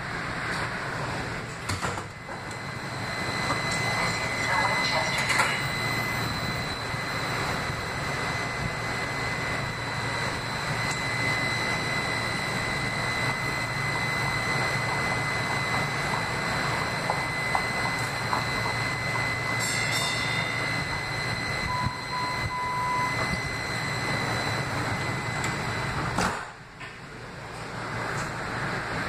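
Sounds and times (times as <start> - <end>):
high-pitched whine: 0.0 - 29.0
light rail equipment whirring: 0.0 - 29.0.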